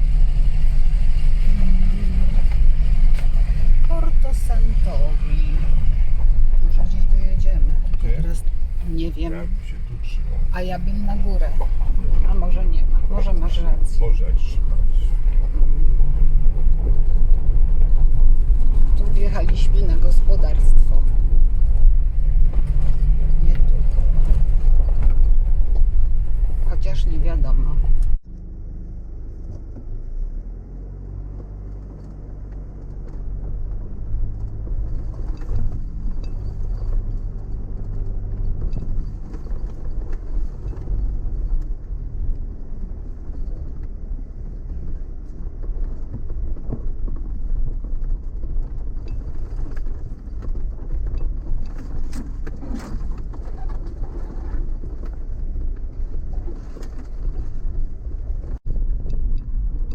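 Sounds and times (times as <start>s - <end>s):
car engine hum: 0.0s - 59.9s
tyres rumbling on dirt track: 0.0s - 59.9s.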